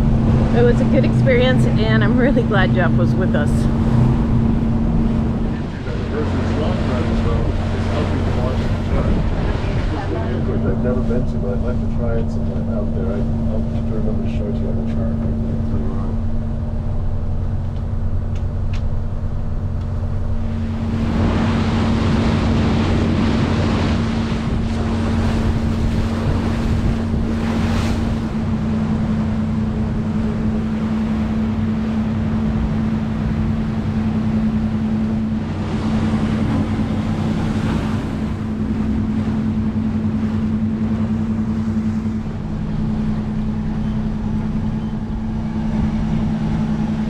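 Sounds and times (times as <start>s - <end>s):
wind noise: 0.0s - 13.8s, 15.1s - 47.0s
boat diesel engine droning: 0.0s - 47.0s
rushing water: 0.0s - 47.0s.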